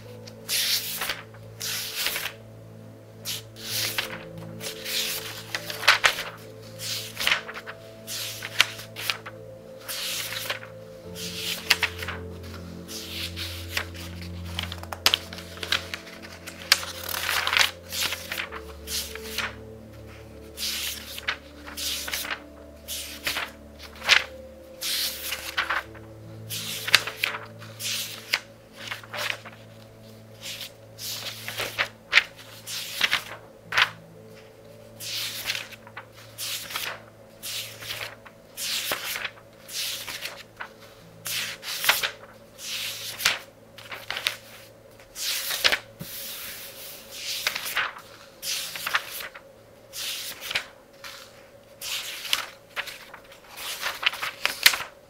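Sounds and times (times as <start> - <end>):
book pages turning: 0.0 - 2.4, 3.2 - 55.0
soft music with low notes: 0.0 - 55.0.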